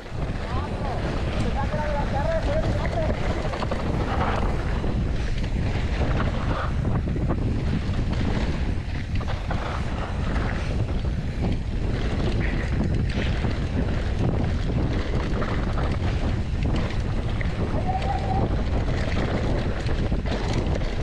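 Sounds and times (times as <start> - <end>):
bike knocks and rattles: 0.0 - 21.0
wind buffeting microphone: 0.0 - 21.0.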